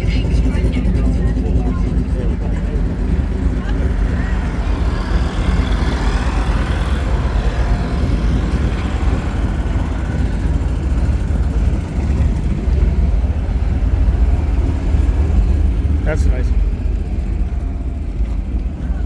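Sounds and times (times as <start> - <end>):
motor vehicles rumbling: 0.0 - 19.0.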